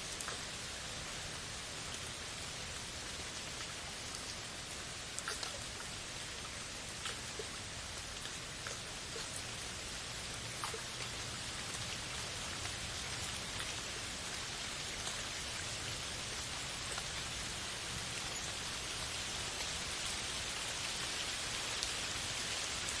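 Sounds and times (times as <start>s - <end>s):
heavy rain on forest canopy: 0.0s - 23.0s
rain drop ticks: 0.1s - 23.0s.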